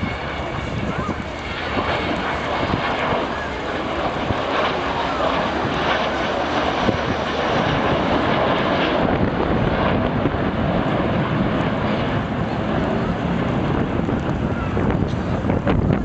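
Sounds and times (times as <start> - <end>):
jet aircraft passing overhead: 0.0 - 16.0.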